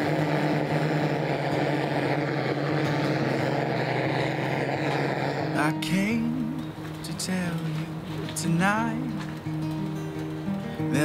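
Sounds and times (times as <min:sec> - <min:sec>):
gas torch flame blasting: 0:00.0 - 0:09.4.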